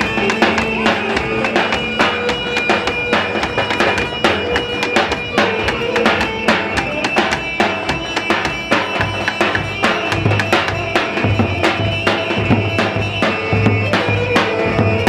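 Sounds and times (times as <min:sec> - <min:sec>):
driving drum beat: 0:00.0 - 0:15.0
reedy melody: 0:00.0 - 0:15.0.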